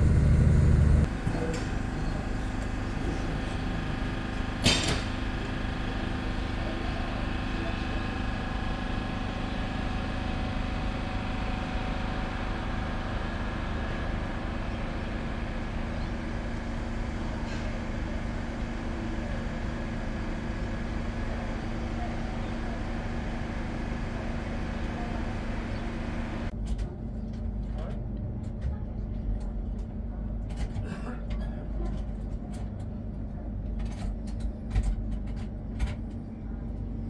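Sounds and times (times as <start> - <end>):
train mechanical drone: 0.0 - 37.0.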